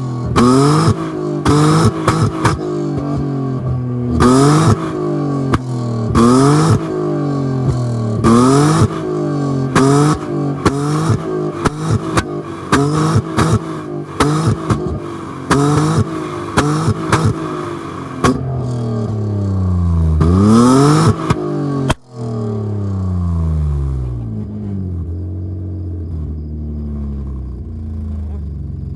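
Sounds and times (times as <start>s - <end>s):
exhaust popping and crackling: 0.0s - 24.6s
car engine idling: 0.0s - 28.9s
car engine revving: 0.0s - 28.9s.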